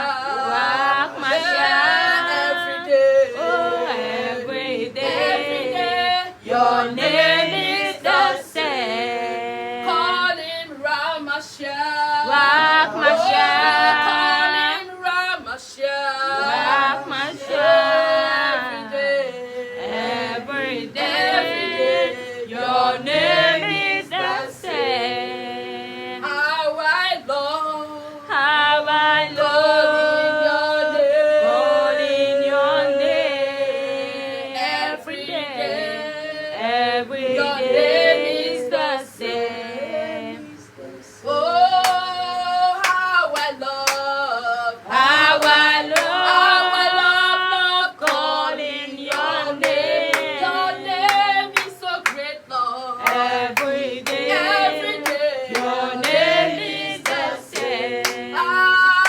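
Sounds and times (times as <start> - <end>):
voices singing a worship song: 0.0 - 59.0.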